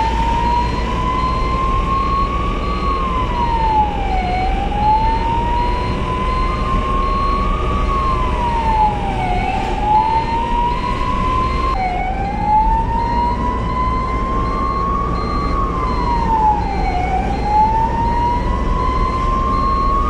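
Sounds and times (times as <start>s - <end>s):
ambulance siren wailing: 0.0s - 20.0s
engine and road rumble: 0.0s - 20.0s.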